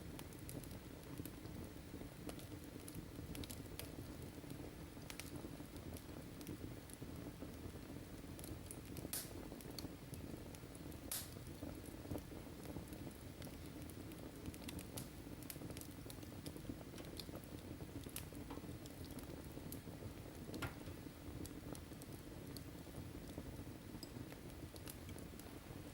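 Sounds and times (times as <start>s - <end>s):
wood fire crackling and popping: 0.0s - 25.9s.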